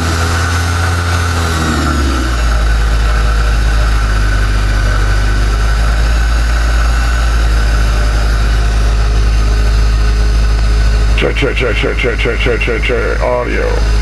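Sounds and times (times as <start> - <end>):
shaker table humming: 0.0 - 11.2.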